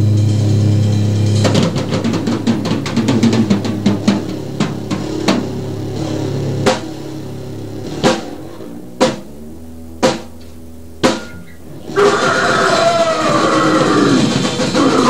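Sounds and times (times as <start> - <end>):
low held tone: 0.0 - 13.4
dense noise music: 0.0 - 15.0
heavy drum hits: 0.0 - 15.0.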